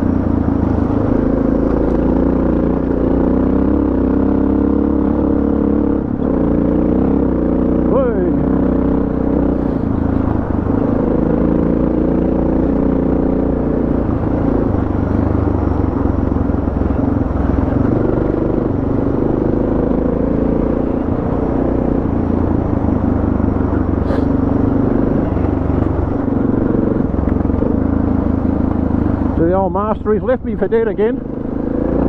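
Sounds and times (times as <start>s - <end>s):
tyre noise on dirt road: 0.0s - 32.0s.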